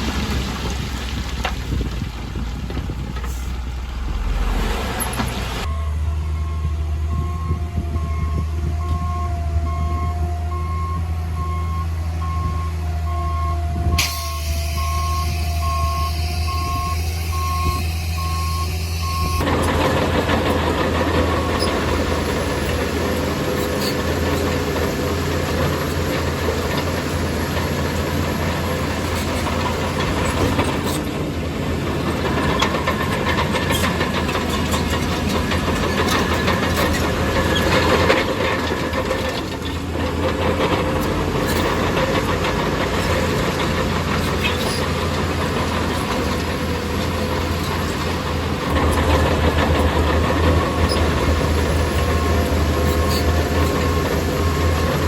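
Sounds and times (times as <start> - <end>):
diesel machinery droning: 0.0 - 55.0.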